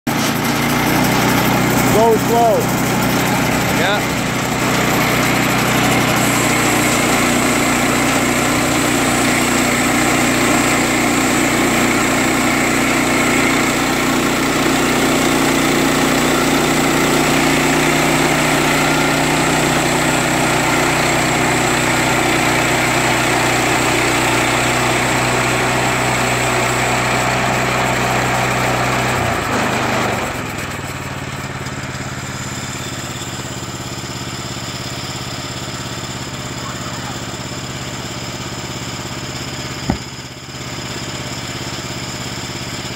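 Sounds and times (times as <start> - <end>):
band sawmill cutting log: 0.1 - 42.9.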